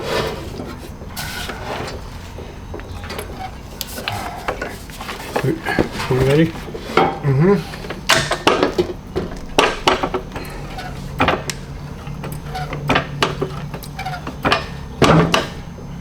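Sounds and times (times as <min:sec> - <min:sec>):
metallic clicks and clanks: 0:01.0 - 0:16.0.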